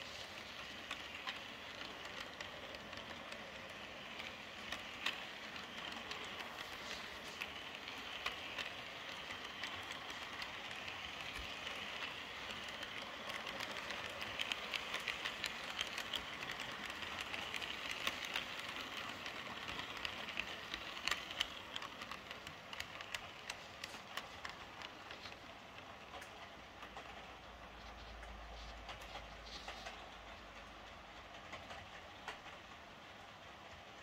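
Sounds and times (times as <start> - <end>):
model train wheels rolling on rails: 0.0 - 34.0.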